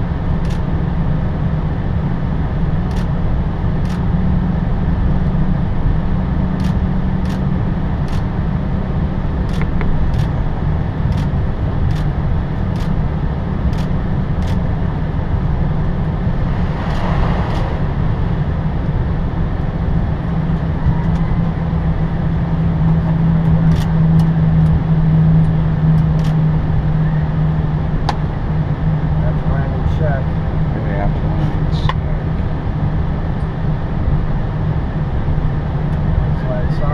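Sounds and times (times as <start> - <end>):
engine and air conditioning hum: 0.0 - 36.9.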